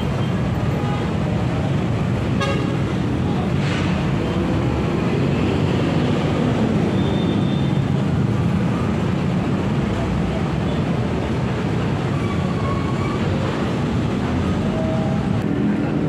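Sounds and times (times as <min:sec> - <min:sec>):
low rumble of traffic or engine: 0:00.0 - 0:16.0.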